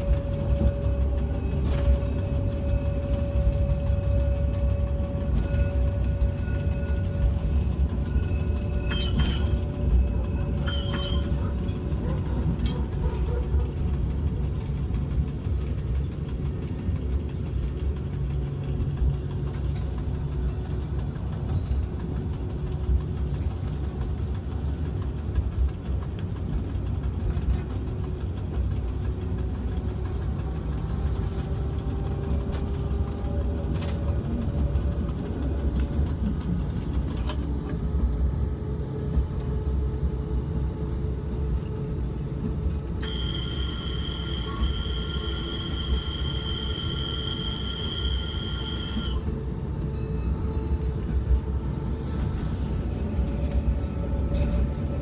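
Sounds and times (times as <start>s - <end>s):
high steady whine: 0.0s - 55.0s
train rumbling on rails: 0.0s - 55.0s.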